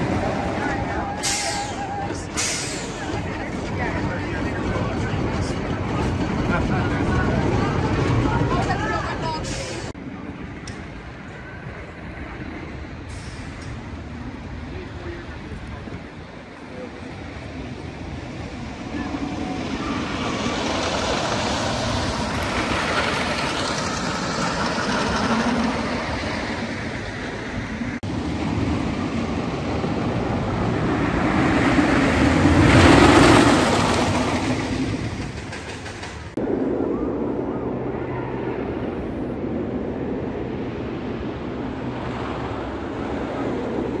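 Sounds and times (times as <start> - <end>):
roller coaster on track: 0.0 - 44.0.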